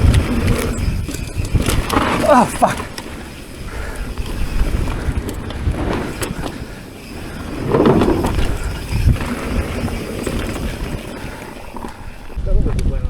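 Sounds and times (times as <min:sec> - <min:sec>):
bike tyres rumbling on dirt: 0:00.0 - 0:12.4.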